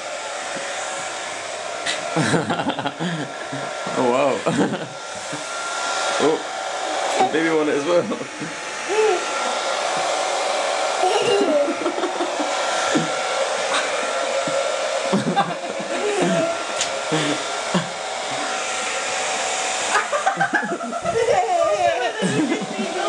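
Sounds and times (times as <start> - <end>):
hair dryer running: 0.0 - 23.0.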